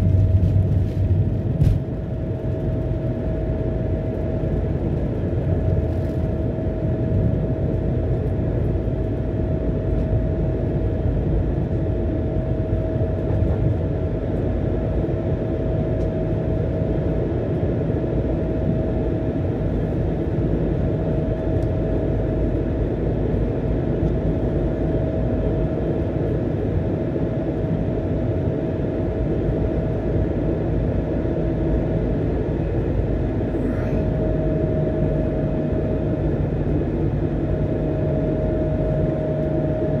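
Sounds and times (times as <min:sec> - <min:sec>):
mid-pitched hum: 0:00.0 - 0:40.0.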